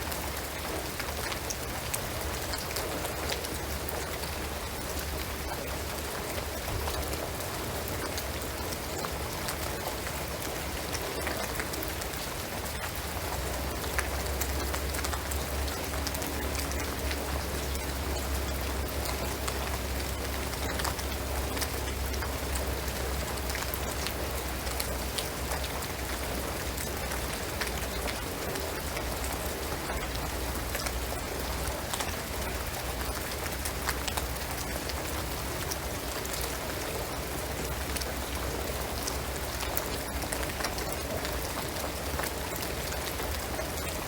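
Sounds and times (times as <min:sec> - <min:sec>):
rain on a roof and trees: 0:00.0 - 0:44.0.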